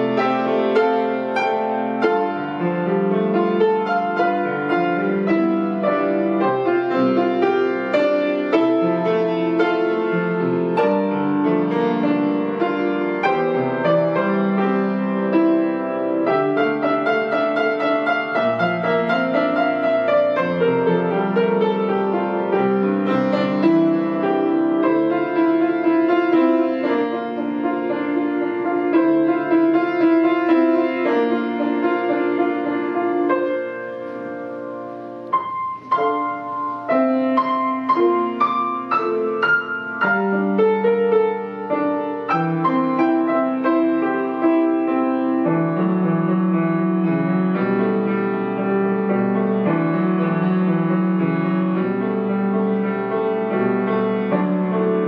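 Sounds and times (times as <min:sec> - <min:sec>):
slow piano hymn: 0:00.0 - 0:55.0.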